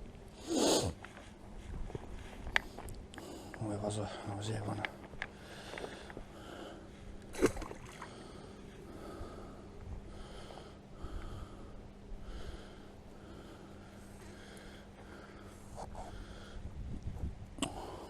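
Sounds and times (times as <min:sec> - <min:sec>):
man breathing heavily through nose: 0:00.4 - 0:07.2, 0:07.9 - 0:17.0, 0:17.6 - 0:18.0.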